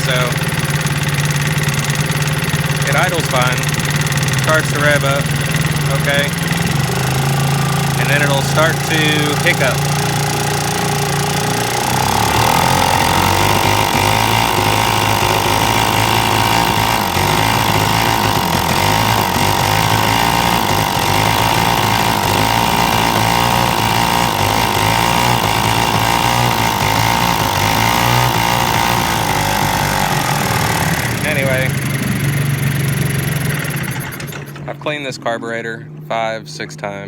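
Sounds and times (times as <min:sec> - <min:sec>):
small engine revving unevenly: 0:00.0 - 0:37.0.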